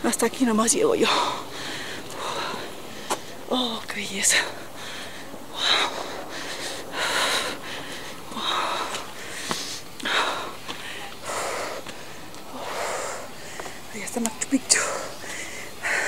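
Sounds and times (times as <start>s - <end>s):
person breathing heavily: 1.0s - 13.9s, 14.6s - 16.0s.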